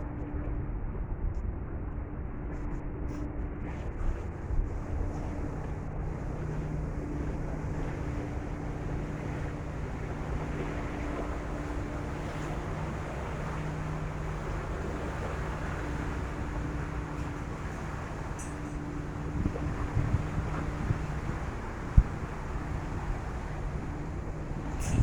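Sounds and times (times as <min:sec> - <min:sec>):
low ferry engine hum: 0:00.0 - 0:25.0
wind on microphone: 0:00.0 - 0:25.0
rush of water: 0:03.7 - 0:25.0.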